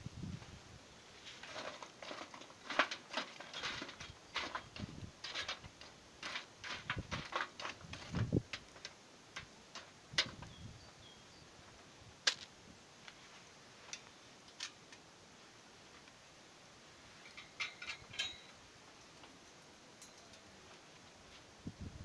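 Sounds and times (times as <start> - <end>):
wire grate set on grill: 0.4 - 22.0
poker raking charcoal in grill: 1.1 - 15.1, 17.0 - 21.6.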